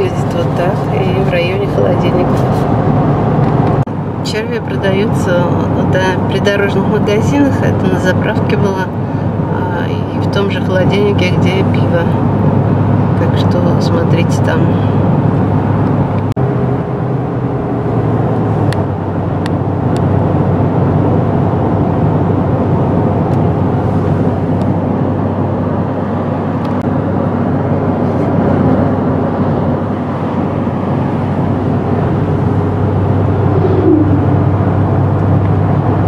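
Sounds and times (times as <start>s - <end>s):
car engine hum: 0.0s - 36.0s
tyre and road rush: 0.0s - 36.0s.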